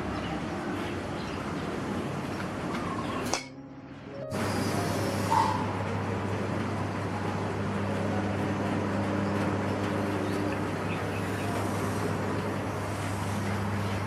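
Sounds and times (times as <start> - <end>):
vehicle engine hum: 0.0 - 14.0.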